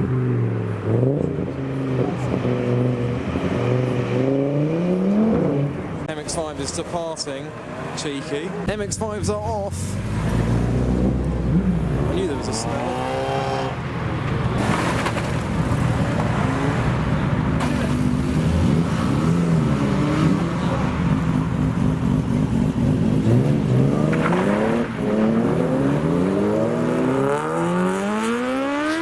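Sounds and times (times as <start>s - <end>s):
car engine accelerating: 0.0s - 6.9s, 8.6s - 29.0s
car engines revving: 0.0s - 29.0s.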